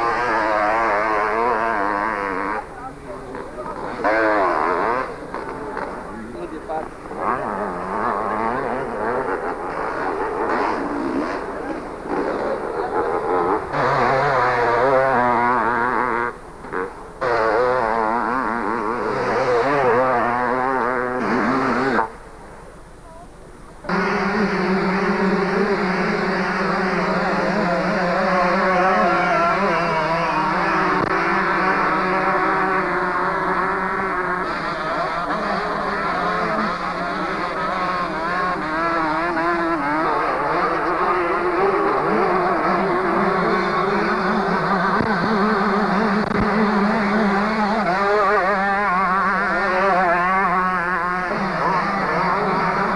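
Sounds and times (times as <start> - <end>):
motocross motorcycle engines racing: 0.0 - 52.9.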